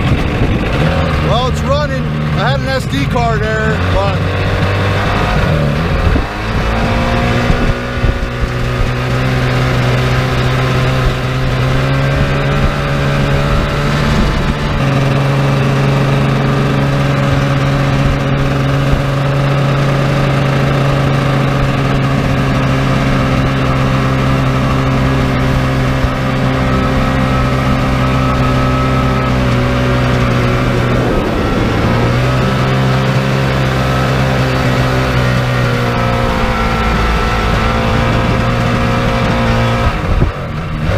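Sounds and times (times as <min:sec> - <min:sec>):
jet boat engine at high revs: 0:00.0 - 0:40.9.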